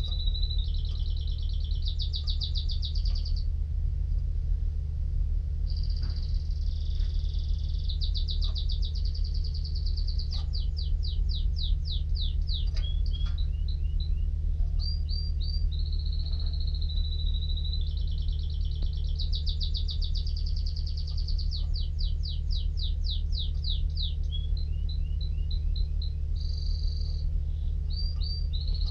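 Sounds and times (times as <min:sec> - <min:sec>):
canary singing trills: 0:00.0 - 0:03.5, 0:05.7 - 0:28.9
steady low hum: 0:00.0 - 0:28.9.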